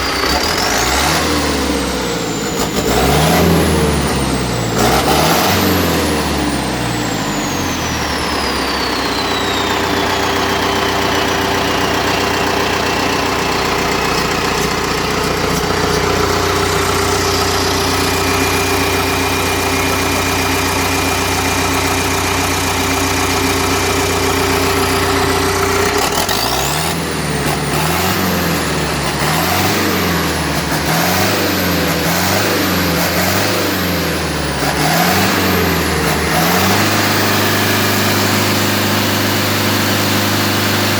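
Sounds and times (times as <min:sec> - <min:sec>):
diesel engine running and revving: 0:00.0 - 0:40.9
high engine whine: 0:00.0 - 0:40.9.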